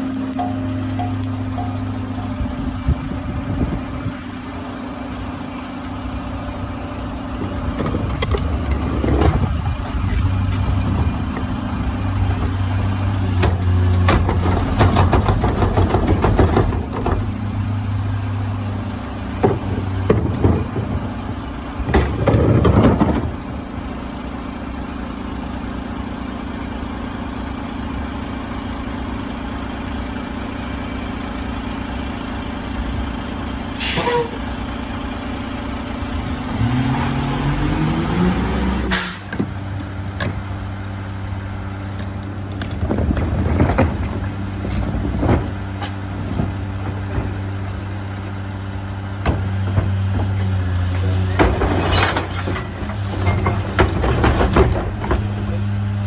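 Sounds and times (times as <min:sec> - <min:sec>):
garbage truck engine running: 0:00.0 - 0:56.0.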